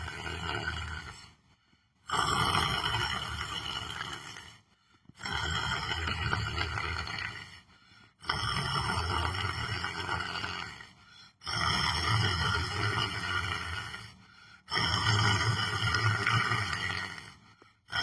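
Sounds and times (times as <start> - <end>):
person snoring loudly: 0.0 - 1.3, 2.1 - 4.6, 5.2 - 7.6, 8.2 - 18.0.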